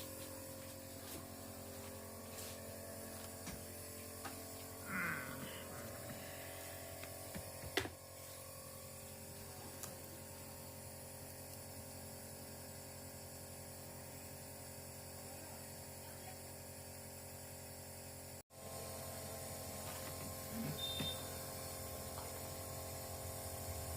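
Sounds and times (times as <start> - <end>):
nebulizer compressor humming: 0.0 - 23.9.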